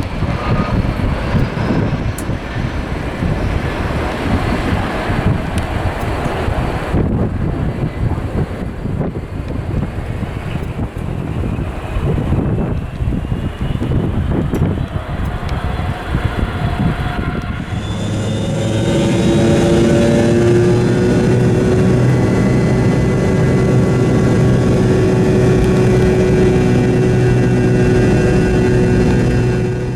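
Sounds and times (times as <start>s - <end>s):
jet engines at high power: 0.0s - 29.9s
wind buffeting microphone: 0.0s - 29.9s.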